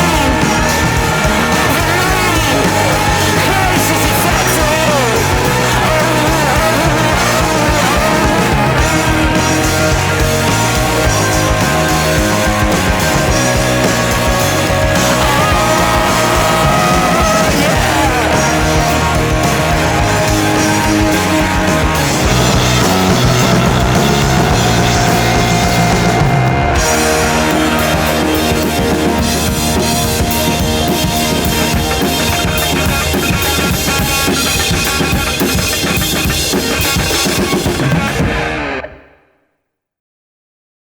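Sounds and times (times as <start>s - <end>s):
instrumental rock music: 0.0s - 39.3s.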